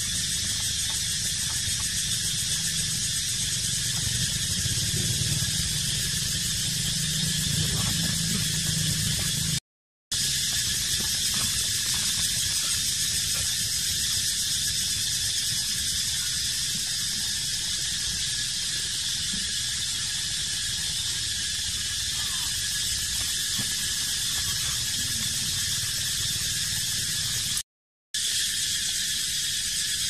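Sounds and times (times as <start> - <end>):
high-pitched hiss: 0.0 - 9.6, 10.2 - 27.6, 28.2 - 30.0.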